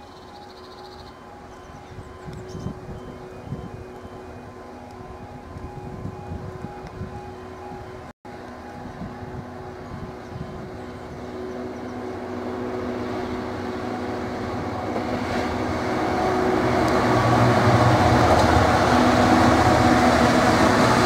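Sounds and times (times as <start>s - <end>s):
diesel locomotive engine: 0.0s - 21.0s
wheels rumbling on rail: 0.1s - 21.0s.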